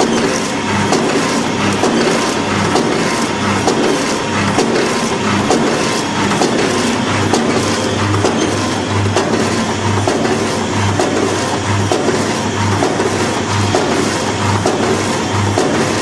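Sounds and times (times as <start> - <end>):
low machine hum: 0.0 - 16.0
packaging machine clattering: 0.0 - 16.0.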